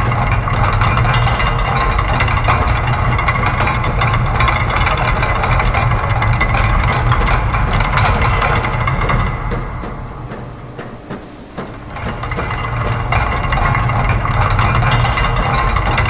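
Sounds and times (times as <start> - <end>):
low machine hum: 0.0 - 16.0
rapid mechanical clicks: 0.0 - 16.0.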